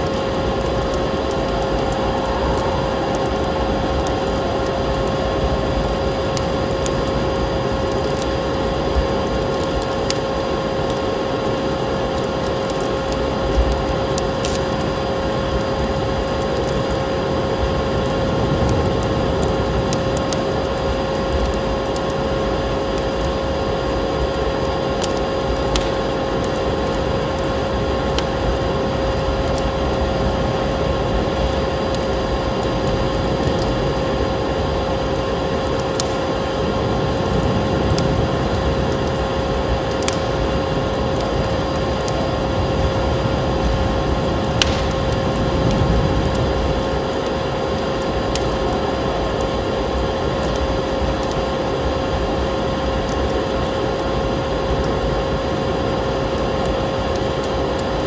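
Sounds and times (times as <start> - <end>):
steady low hum: 0.0 - 58.0
wood fire crackling: 0.0 - 58.0.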